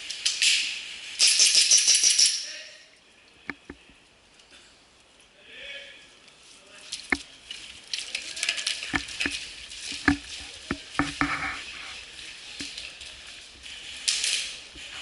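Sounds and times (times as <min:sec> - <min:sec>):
steady hissing rustle: 0:00.0 - 0:15.0.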